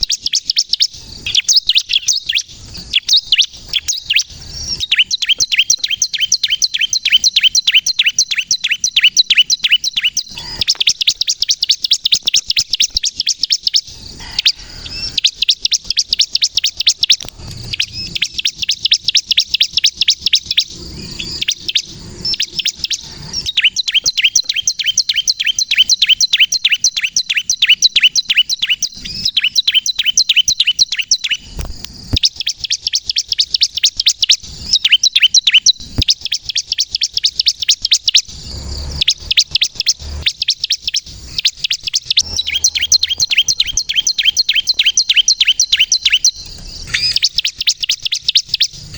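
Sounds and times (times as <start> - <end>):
bird singing rapid high chirps: 0.0 - 48.9.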